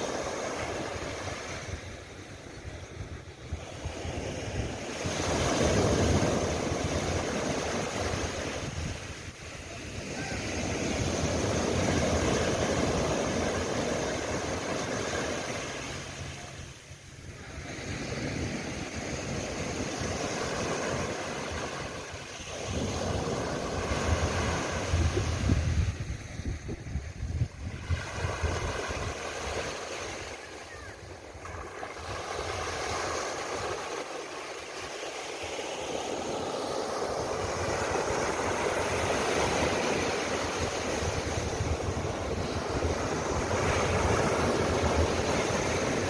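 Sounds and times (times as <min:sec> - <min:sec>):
sea waves breaking on beach: 0:00.0 - 0:46.0.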